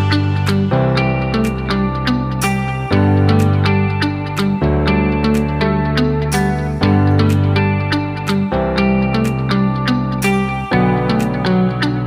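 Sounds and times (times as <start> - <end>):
guitar music with bass and beat: 0.0 - 12.0.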